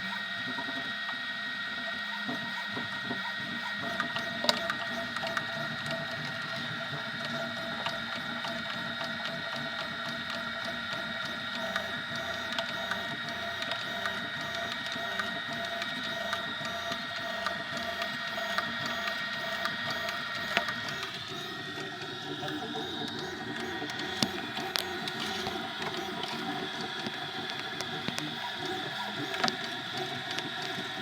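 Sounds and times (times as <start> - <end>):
stepper motors whining: 1.8 - 31.0.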